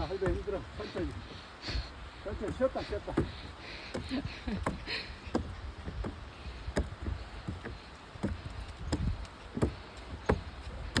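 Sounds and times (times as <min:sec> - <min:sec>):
footsteps walking slowly: 0:00.0 - 0:11.0.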